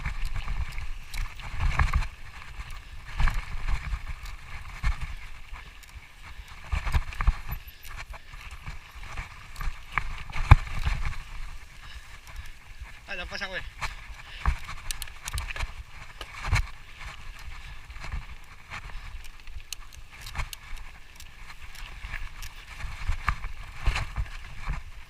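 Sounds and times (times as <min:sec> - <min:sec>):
gear rustling: 0:00.0 - 0:25.0.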